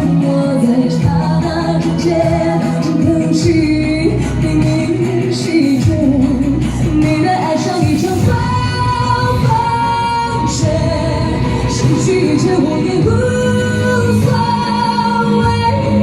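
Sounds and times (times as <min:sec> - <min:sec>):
pop ballad with singing: 0:00.0 - 0:16.0.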